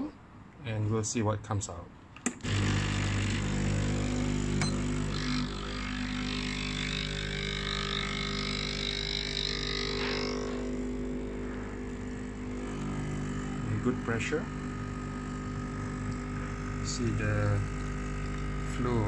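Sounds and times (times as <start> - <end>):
espresso machine pump humming: 2.4 - 19.0.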